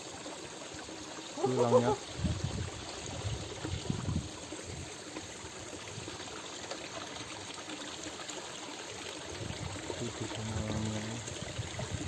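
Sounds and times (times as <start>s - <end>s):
stream water running over rocks: 0.0s - 12.0s.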